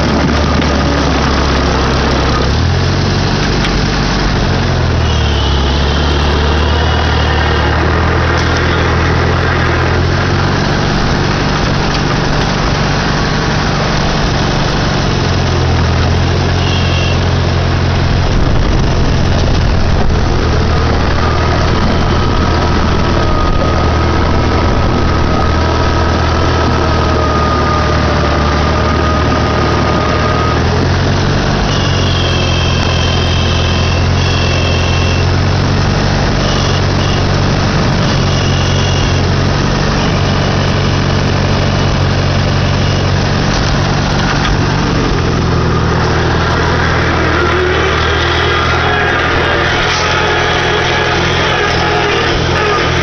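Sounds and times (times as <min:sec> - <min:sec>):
thin whine: 0:00.0 - 0:35.4, 0:36.0 - 0:53.0
tractor engine running: 0:00.0 - 0:53.0.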